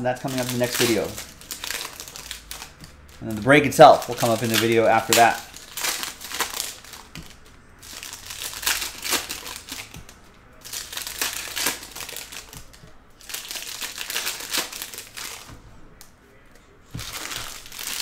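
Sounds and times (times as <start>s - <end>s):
foil card packs crinkling and tearing: 0.1s - 15.6s, 17.0s - 18.0s.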